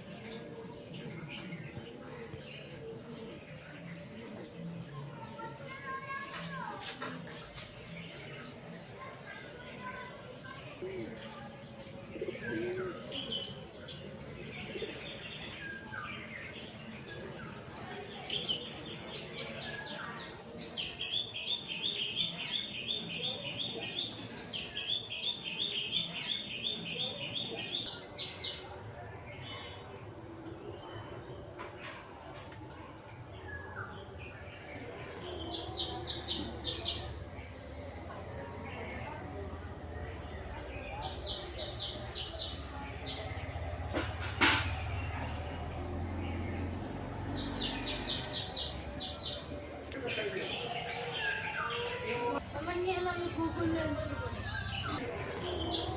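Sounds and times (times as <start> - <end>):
faint insect-like hum: 0.0 - 55.9.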